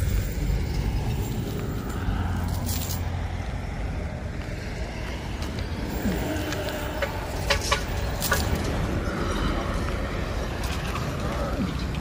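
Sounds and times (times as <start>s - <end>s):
road vehicle rumbling: 0.0s - 12.0s.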